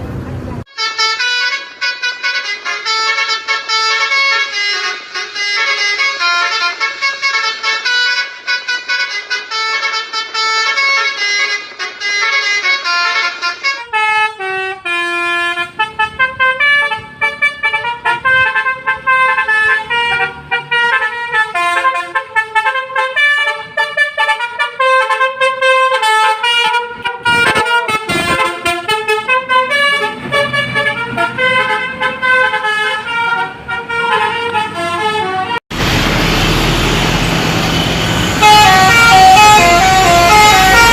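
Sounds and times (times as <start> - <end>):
musical air horns playing tunes: 0.7 - 35.7, 37.8 - 40.9.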